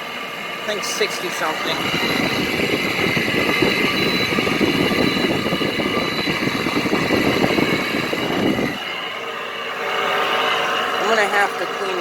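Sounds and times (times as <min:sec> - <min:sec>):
air conditioner fan rumble: 0:00.0 - 0:12.0
high whine: 0:00.0 - 0:12.0.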